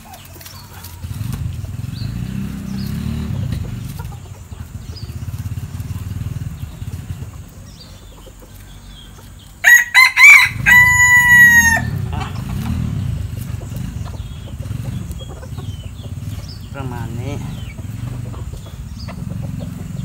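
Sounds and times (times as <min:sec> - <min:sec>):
low pulsing engine rumble: 0:00.0 - 0:09.6, 0:10.5 - 0:20.0.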